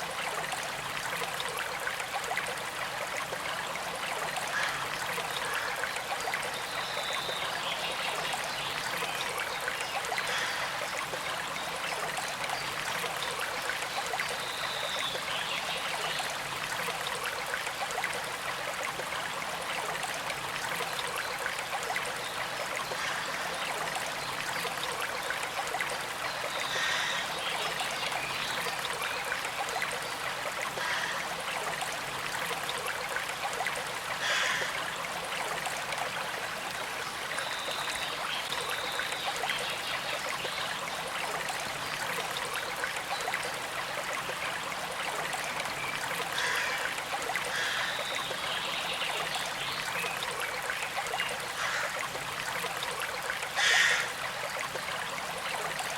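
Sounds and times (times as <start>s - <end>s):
creek flowing: 0.0s - 55.9s.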